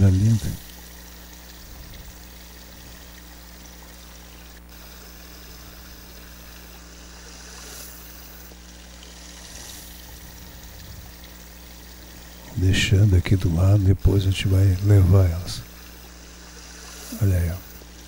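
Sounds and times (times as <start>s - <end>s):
faint low hum: 0.0s - 18.0s
stream water trickling: 0.0s - 18.0s.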